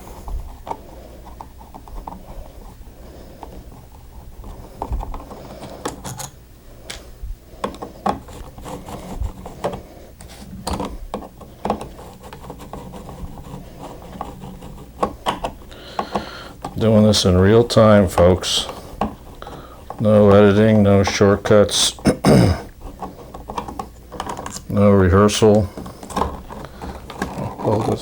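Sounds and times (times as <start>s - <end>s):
metal and plastic scraping: 0.0s - 28.0s.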